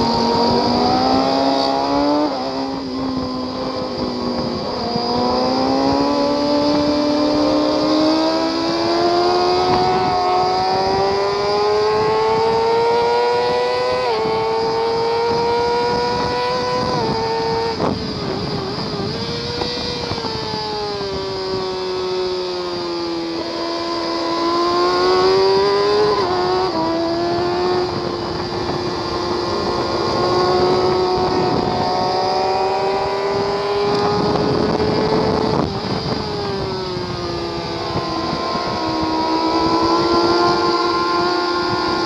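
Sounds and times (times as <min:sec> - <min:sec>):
motorcycle engine revving: 0:00.0 - 0:42.0
wind rushing on microphone: 0:00.0 - 0:42.0.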